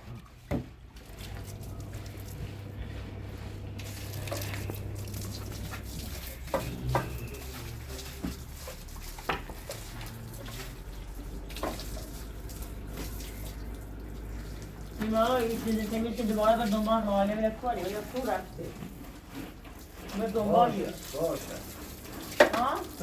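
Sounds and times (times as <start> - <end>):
water running: 0.8 - 23.0.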